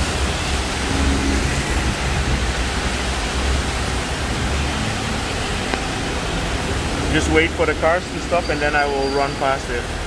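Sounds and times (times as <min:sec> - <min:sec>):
cars rumbling on wet street: 0:00.0 - 0:10.0
heavy rain pouring: 0:00.0 - 0:10.0.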